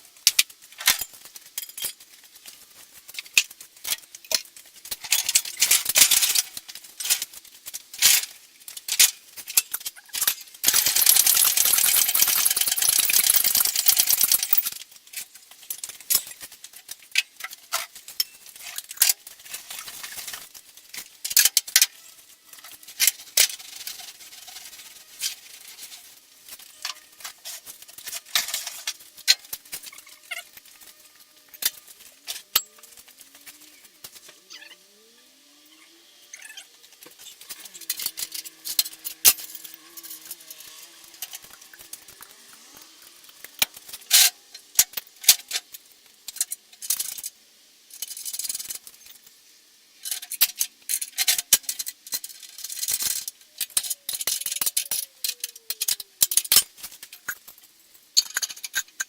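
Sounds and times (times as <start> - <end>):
steady hiss: 0.0 - 59.0
metal tools clinking: 0.3 - 34.4, 36.9 - 45.7, 50.0 - 59.0.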